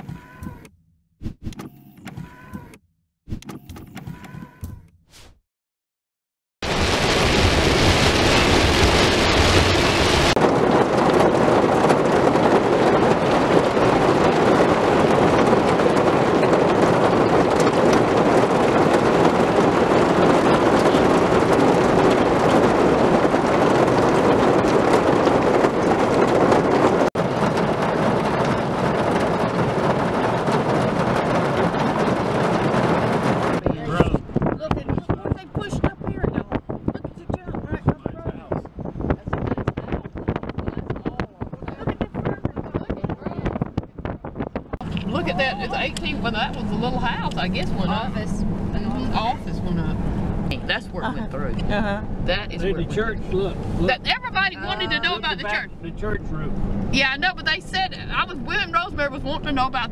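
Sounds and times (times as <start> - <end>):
storm wind and rain roaring: 6.6 - 51.2, 52.1 - 59.9.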